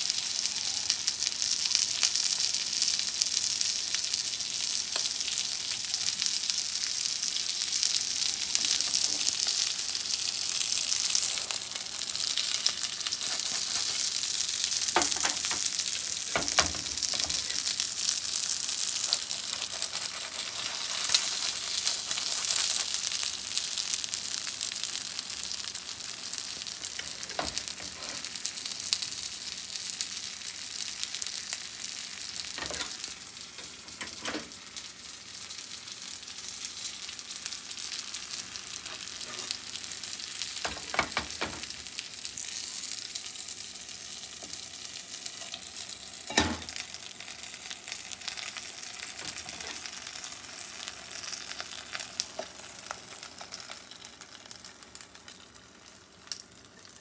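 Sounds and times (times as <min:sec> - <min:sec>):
dumplings sizzling in a pan: 0:00.0 - 0:57.0.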